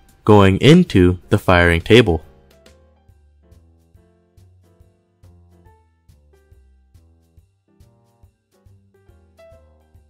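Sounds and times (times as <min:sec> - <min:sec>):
quiet instrumental music: 0:00.0 - 0:10.0.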